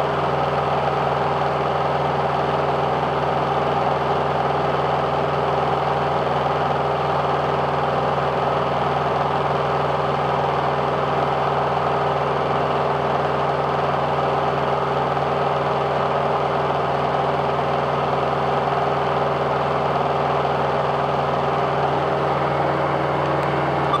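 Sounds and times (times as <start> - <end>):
propeller aircraft engine droning: 0.0 - 24.0.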